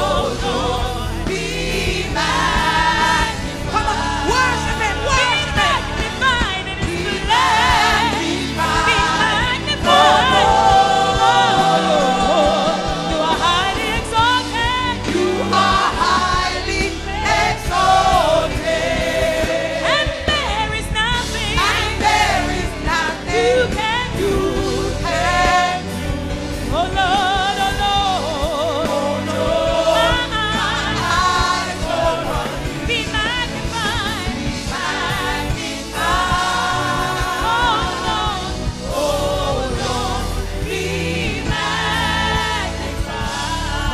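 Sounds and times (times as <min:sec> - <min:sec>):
accompanying instruments: 0:00.0 - 0:43.9
choir and congregation singing: 0:00.0 - 0:43.9.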